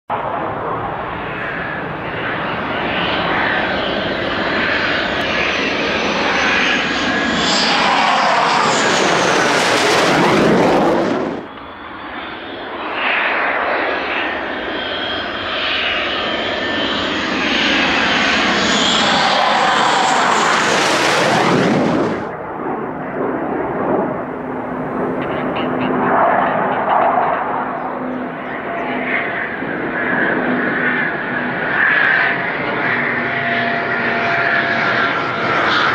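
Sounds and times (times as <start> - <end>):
fighter jets passing low overhead: 0.1 - 35.9.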